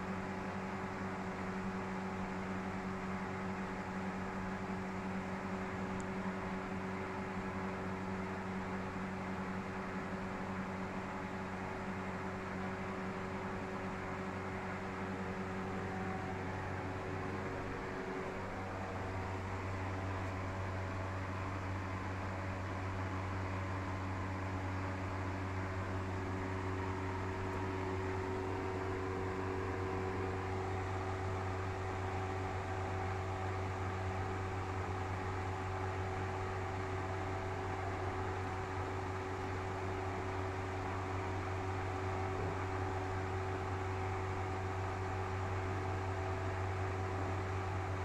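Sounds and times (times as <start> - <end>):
steady mechanical hum: 0.0 - 48.0.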